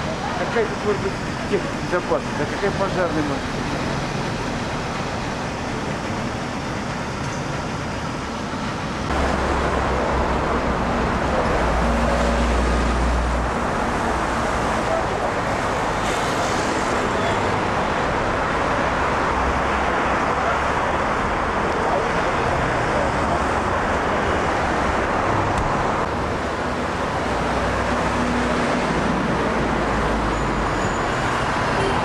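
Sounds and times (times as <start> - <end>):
cars passing: 0.0 - 7.2, 7.9 - 32.0.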